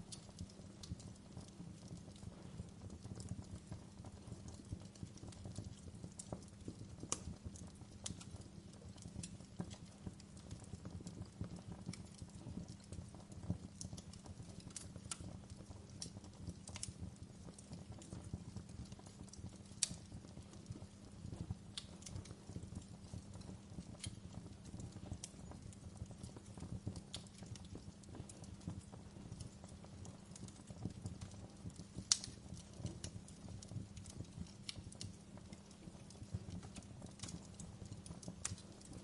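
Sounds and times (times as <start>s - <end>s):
fire snaps and pops: 0.0s - 39.0s
low rumble of burning fire: 0.0s - 39.0s.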